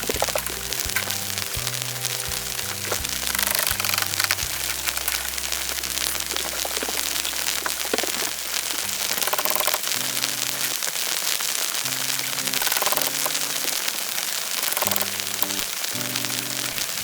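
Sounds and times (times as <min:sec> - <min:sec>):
music with held low notes: 0:00.0 - 0:10.8, 0:11.9 - 0:13.8, 0:14.8 - 0:17.0
dense crackling patter: 0:00.0 - 0:17.0.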